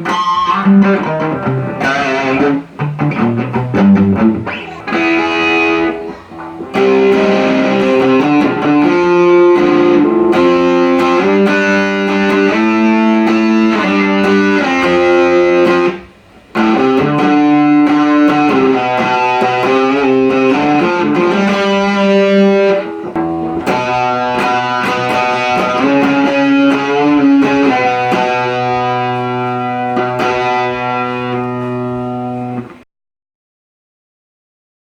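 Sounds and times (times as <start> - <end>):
electric guitar notes and chords: 0.0 - 32.8.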